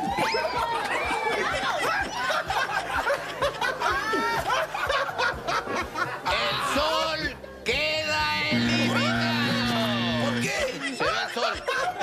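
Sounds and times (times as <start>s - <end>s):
people laughing: 0.0s - 7.2s, 8.5s - 12.0s.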